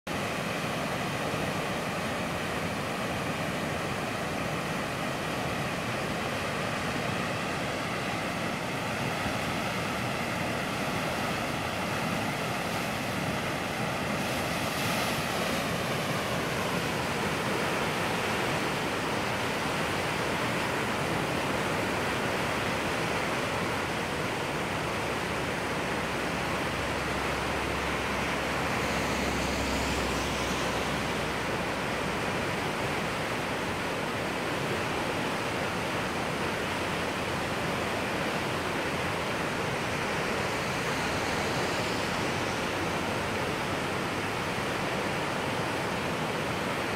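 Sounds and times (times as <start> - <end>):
floodwater rushing down a creek: 0.1 - 46.9.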